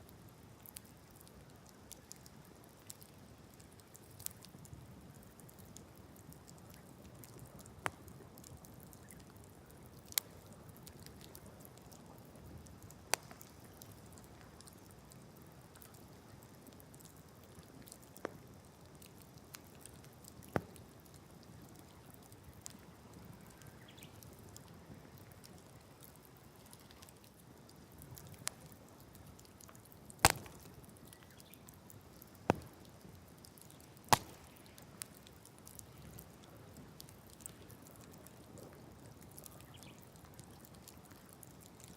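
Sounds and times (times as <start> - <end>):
popping burning wood: 0.0 - 41.9
wood fire crackling: 0.0 - 41.9.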